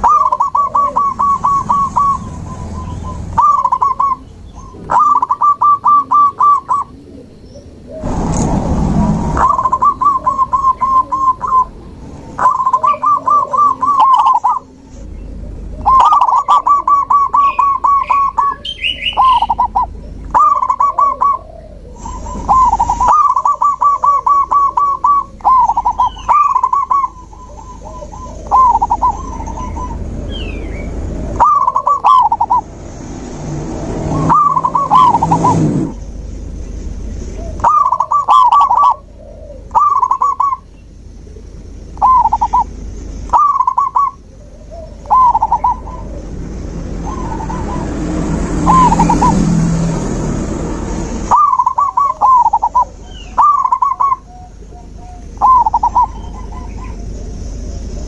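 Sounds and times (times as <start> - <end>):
high bird chirps: 0.0 - 7.6, 9.4 - 32.7, 34.0 - 40.9, 41.9 - 46.4, 48.6 - 49.4, 51.2 - 57.9
dove cooing: 0.0 - 8.1, 9.2 - 32.8, 33.8 - 36.0, 37.3 - 49.7, 51.3 - 58.0.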